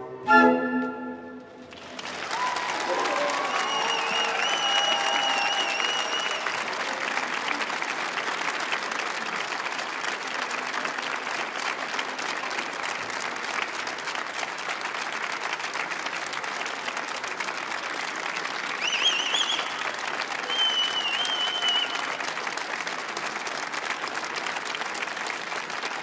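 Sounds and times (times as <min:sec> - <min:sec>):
audience applauding: 0:01.6 - 0:26.0.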